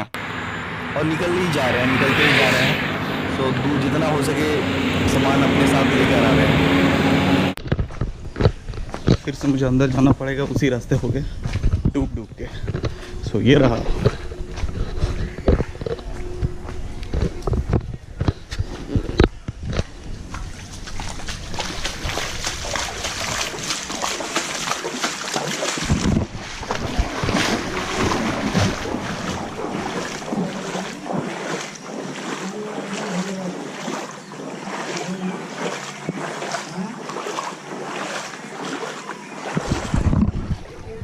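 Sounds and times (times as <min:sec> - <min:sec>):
person wading through water: 0:01.3 - 0:41.0.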